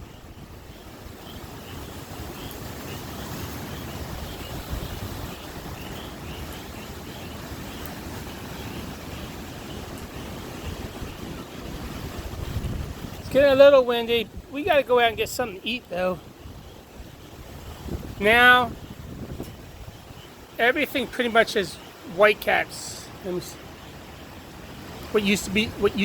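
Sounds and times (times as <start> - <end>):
wind buffeting the microphone: 0.0 - 20.7, 23.2 - 26.0
surf washing: 0.0 - 26.0.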